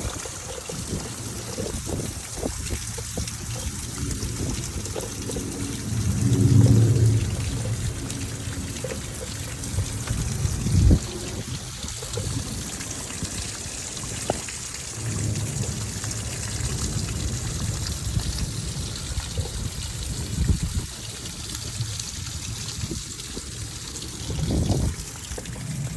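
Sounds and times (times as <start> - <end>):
heavy rain: 0.0 - 25.9
wind buffeting microphone: 0.0 - 25.9.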